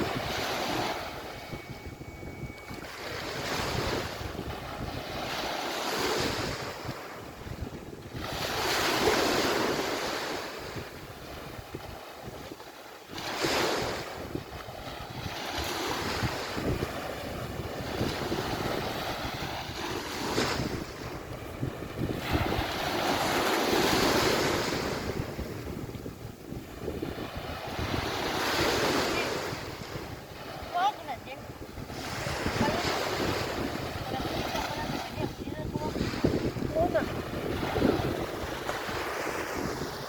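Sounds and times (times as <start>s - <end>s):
waves washing onto beach: 0.0s - 40.0s
wind buffeting microphone: 0.0s - 40.0s.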